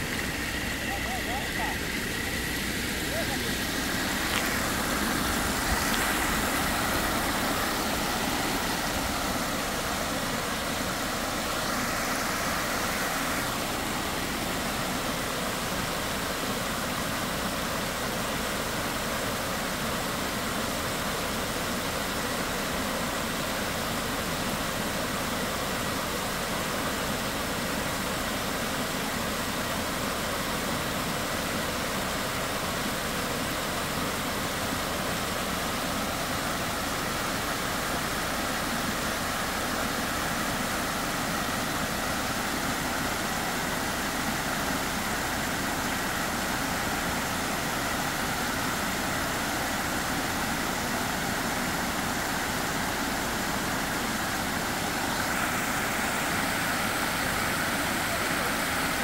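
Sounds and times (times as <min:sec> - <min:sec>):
water rushing over spillway: 0:00.0 - 0:59.0.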